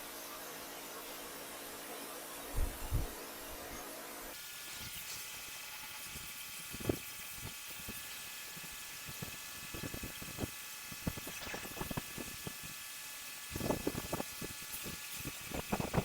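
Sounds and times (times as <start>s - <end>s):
high pump whine: 0.0s - 16.0s.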